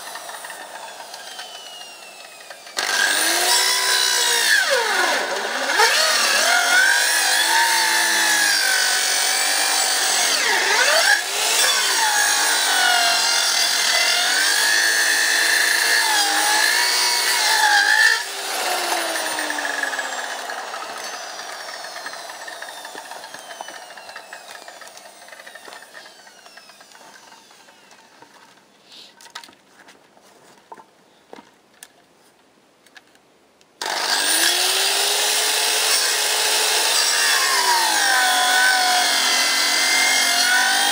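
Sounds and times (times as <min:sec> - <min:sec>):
electric power saw cutting wood: 0:00.0 - 0:28.6, 0:33.8 - 0:40.9.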